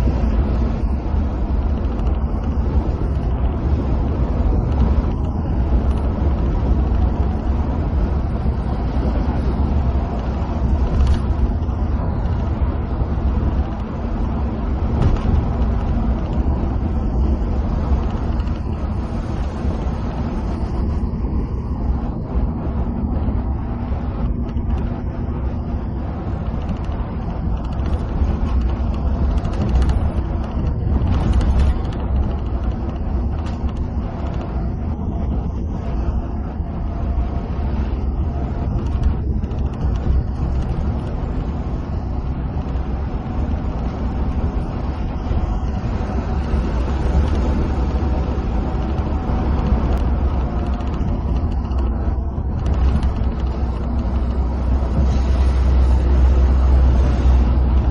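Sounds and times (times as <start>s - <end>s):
bus engine drone: 0.0s - 57.9s
tyre and road noise: 0.0s - 57.9s.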